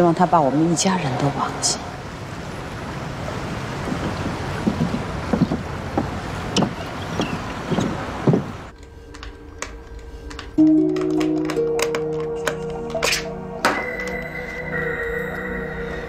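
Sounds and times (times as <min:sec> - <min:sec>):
water: 0:00.0 - 0:16.0
wind: 0:00.0 - 0:16.0.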